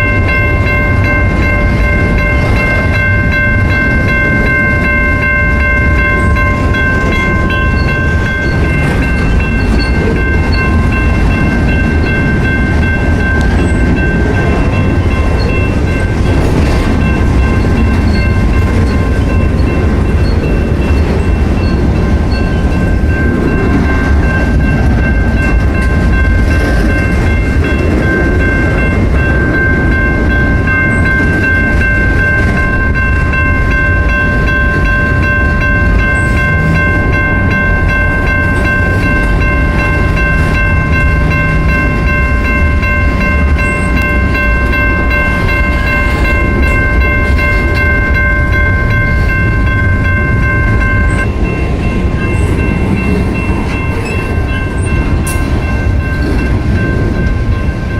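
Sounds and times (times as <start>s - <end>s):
freight train wheels rumbling: 0.0s - 57.9s
high-pitched ringing: 0.0s - 57.9s.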